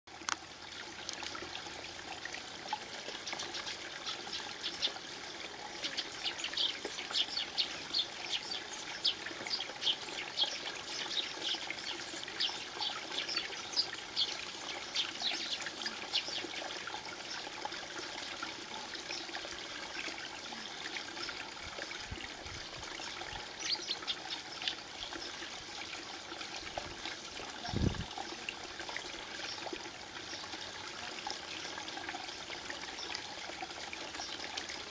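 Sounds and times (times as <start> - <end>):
water trickling into a pool: 0.1 - 34.9.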